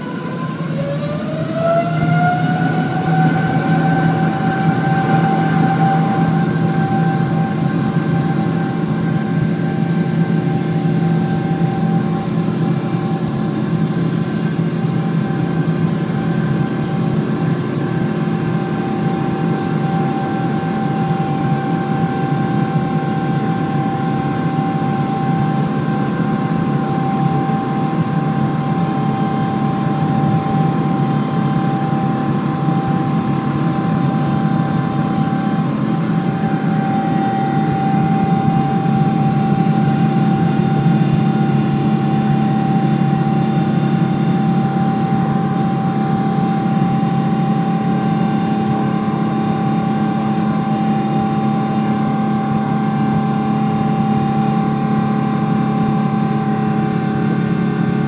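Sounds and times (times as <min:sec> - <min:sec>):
jet engines roaring in cabin: 0:00.0 - 0:58.0.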